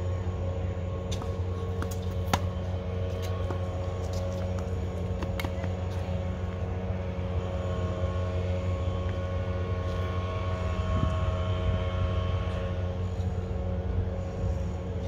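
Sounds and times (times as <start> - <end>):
mechanical drone with held tones: 0.0 - 15.0.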